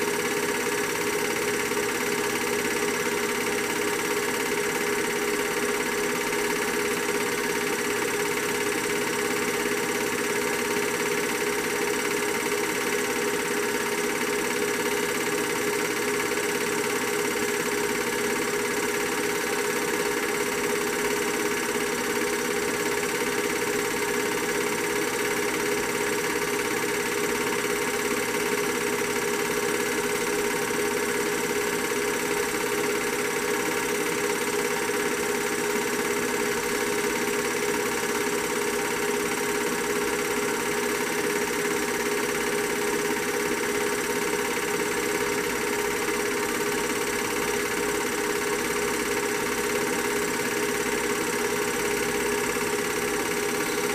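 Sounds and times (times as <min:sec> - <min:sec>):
film projector hum: 0:00.0 - 0:53.9.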